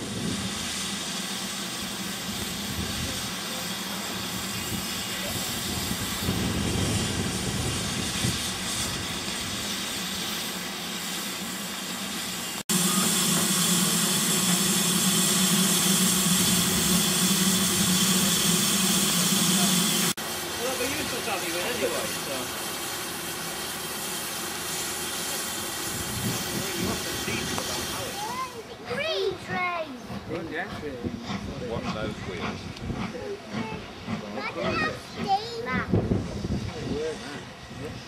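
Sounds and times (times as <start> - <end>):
steam hissing: 0.0 - 38.0.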